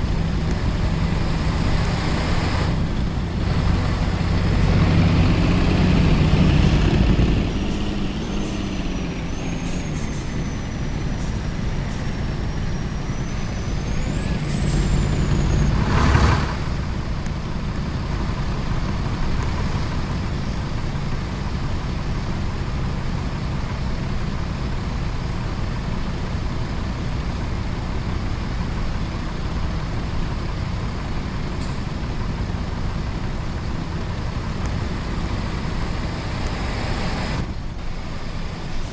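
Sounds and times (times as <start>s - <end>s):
truck engine and road noise: 0.0s - 38.9s.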